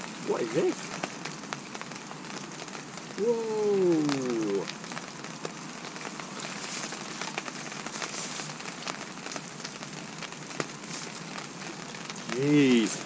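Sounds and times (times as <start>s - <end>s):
heavy rain falling: 0.0s - 13.0s
raindrops ticking close by: 0.0s - 13.0s.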